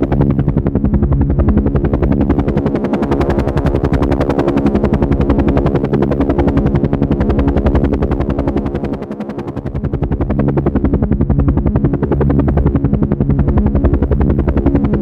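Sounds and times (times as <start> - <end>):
helicopter engine drone: 0.0 - 15.0
helicopter rotor chopping: 0.0 - 15.0.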